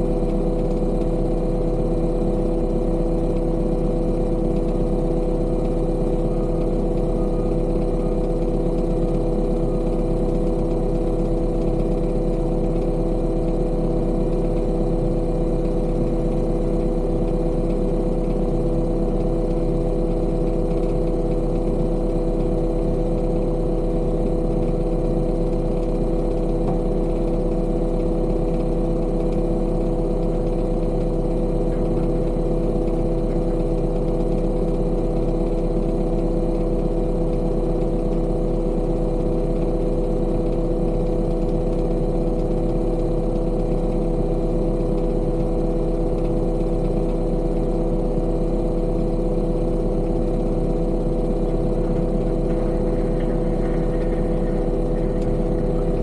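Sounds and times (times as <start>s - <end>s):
construction machine engine drone: 0.0s - 56.0s.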